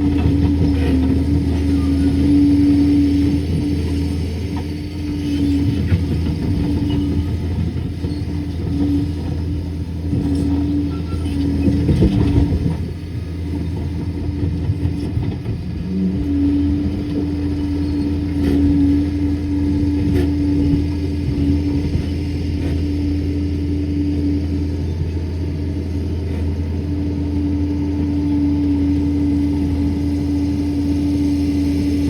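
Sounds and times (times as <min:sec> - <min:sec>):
bulldozer diesel engine running: 0:00.0 - 0:32.0
engine clatter: 0:00.0 - 0:32.0.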